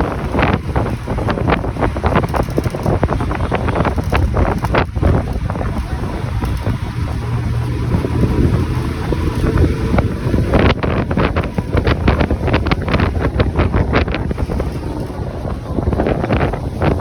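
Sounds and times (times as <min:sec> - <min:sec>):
low vehicle rumble: 0:00.0 - 0:17.0
rapid clicks and rattles: 0:00.0 - 0:17.0
wind buffeting microphone: 0:00.0 - 0:17.0.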